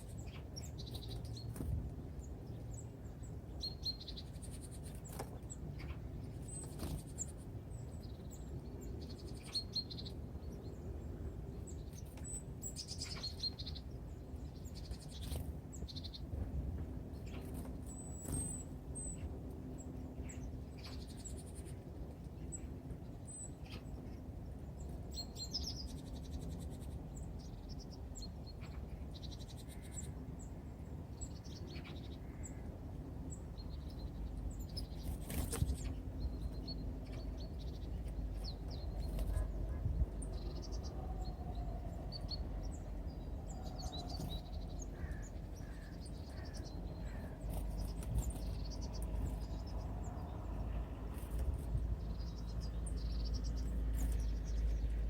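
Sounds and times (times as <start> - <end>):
low background rumble: 0.0 - 55.0
small birds chirping: 0.0 - 55.0.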